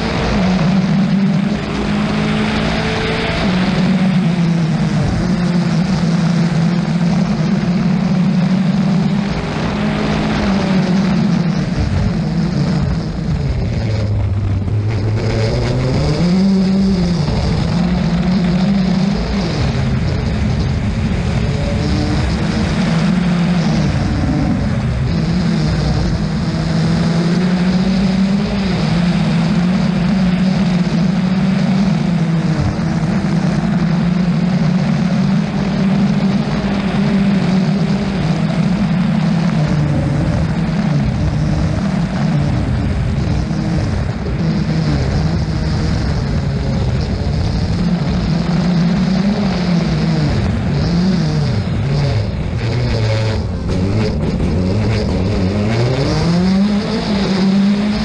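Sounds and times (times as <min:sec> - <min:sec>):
rally car engine running: 0:00.0 - 0:58.0
steady rushing noise: 0:00.0 - 0:58.0.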